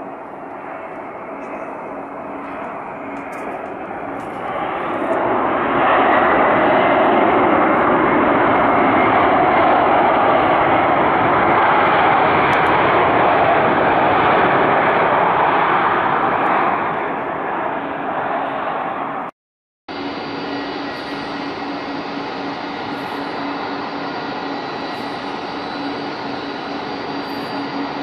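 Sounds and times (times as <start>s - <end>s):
jet engines roaring: 0.0s - 19.3s, 19.9s - 28.0s.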